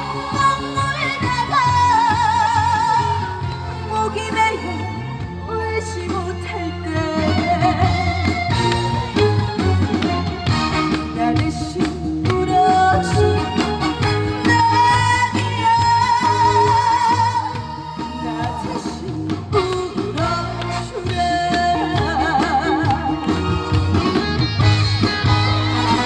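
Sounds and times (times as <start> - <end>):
band accompaniment: 0.0 - 26.0
woman singing with vibrato: 0.0 - 26.0.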